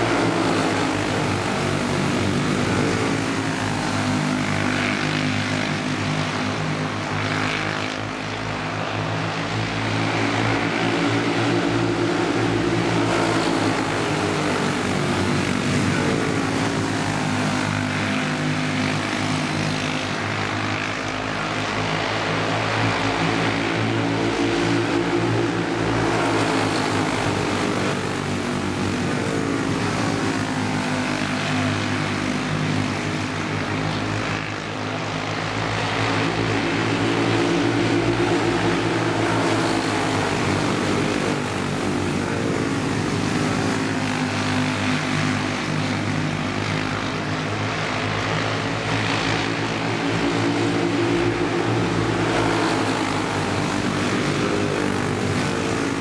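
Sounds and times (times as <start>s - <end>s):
small race car engines buzzing: 0.0s - 56.0s.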